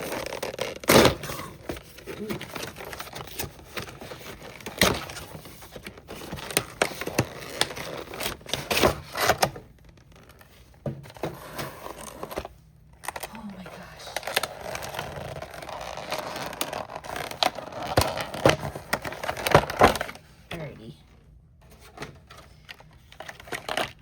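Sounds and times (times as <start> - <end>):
cards crinkling and rustling: 0.0 - 20.4, 21.6 - 24.0.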